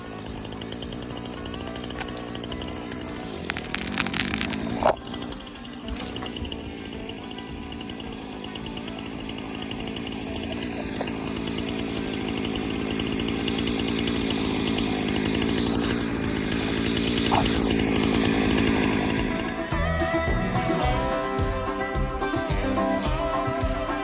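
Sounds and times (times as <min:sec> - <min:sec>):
chainsaw running: 0:00.0 - 0:24.0.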